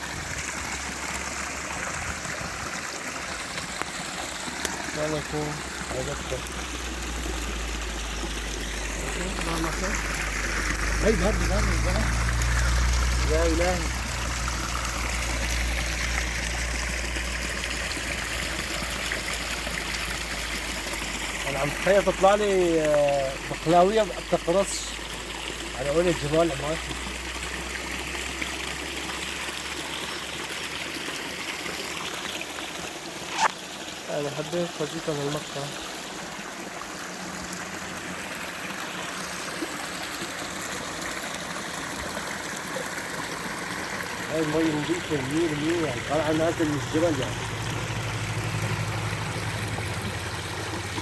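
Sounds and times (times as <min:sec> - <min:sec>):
mountain stream rushing: 0:00.0 - 0:51.0.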